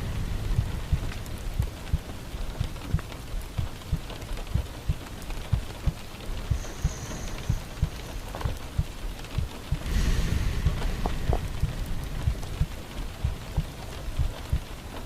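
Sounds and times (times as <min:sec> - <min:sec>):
slow heartbeat thumps: 0:00.0 - 0:15.0
steady rain falling: 0:00.0 - 0:15.0.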